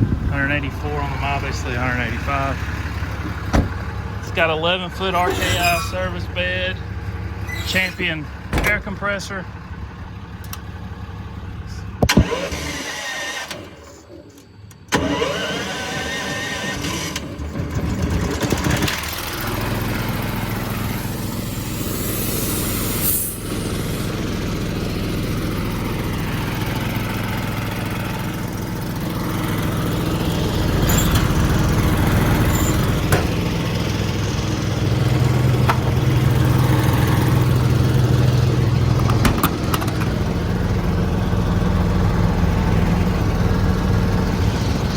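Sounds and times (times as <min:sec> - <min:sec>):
engine starting and running: 0:00.0 - 0:44.9.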